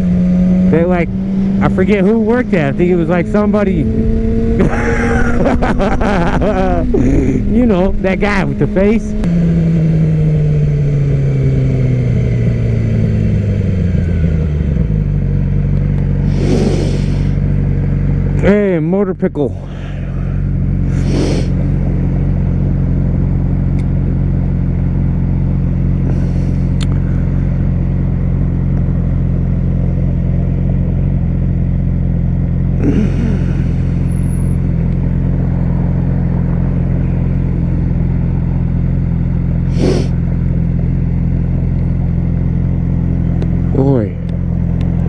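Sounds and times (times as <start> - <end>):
motorcycle engine idling: 0.1 - 45.0.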